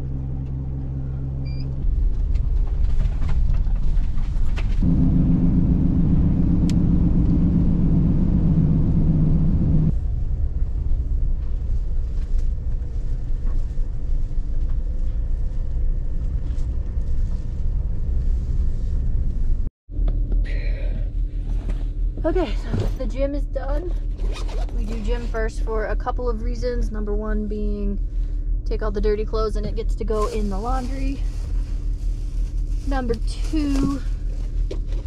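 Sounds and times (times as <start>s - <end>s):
van engine and road rumble: 0.0s - 35.0s.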